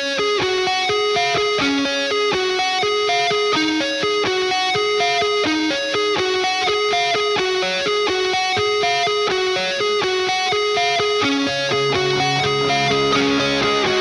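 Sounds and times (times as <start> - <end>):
plucked string instrument music: 2.7 - 14.0.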